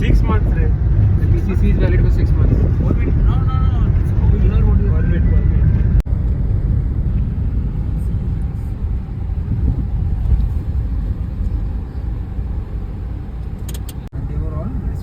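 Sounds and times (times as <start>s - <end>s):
low fluttering rumble: 0.0s - 15.0s.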